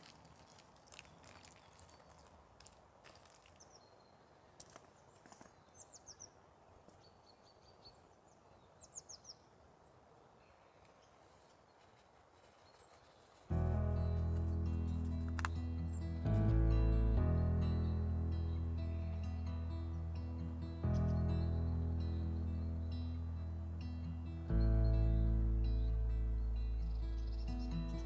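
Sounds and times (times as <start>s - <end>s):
songbird chirping: 3.4s - 28.0s.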